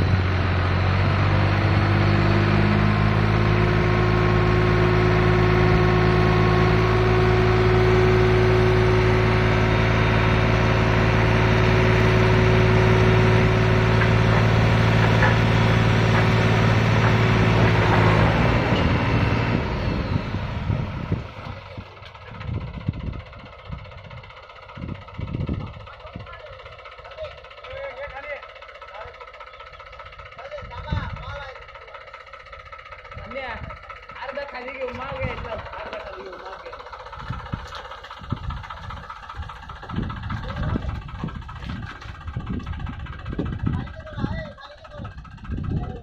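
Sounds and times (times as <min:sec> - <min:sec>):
tractor diesel engine running hard: 0:00.0 - 0:46.0.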